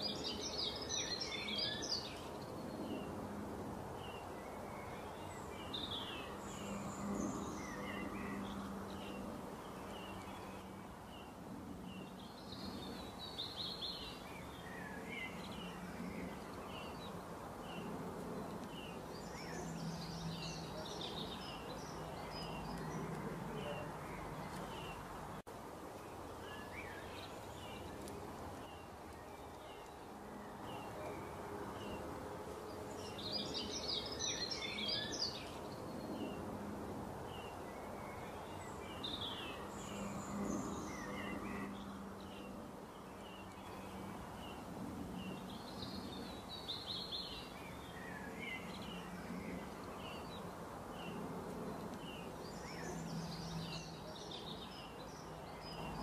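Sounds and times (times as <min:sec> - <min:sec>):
steady outdoor hiss: 0:00.0 - 0:56.0
wild birds chirping: 0:00.0 - 0:56.0.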